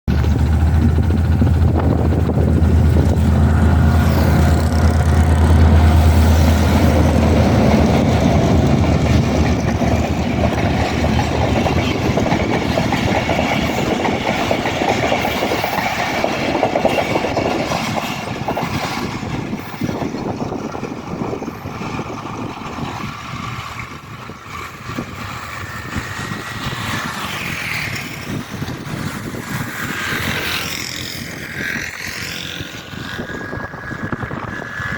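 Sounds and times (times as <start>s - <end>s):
diesel locomotive engine drone: 0.1s - 34.9s
train wheels clattering over rail joints: 0.1s - 34.9s.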